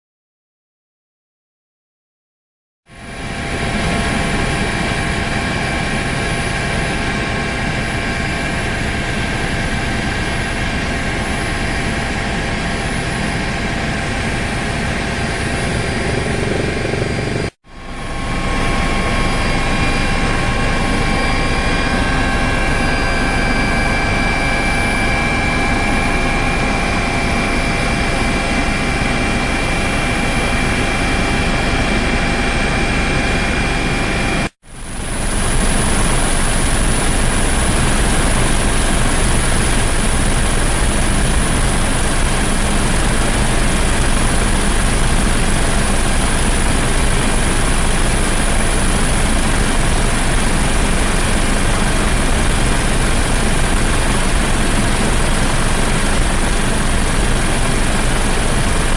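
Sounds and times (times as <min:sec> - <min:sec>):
helicopter rotor drone: 0:02.9 - 0:58.9
helicopter turbine whine: 0:02.9 - 0:58.9.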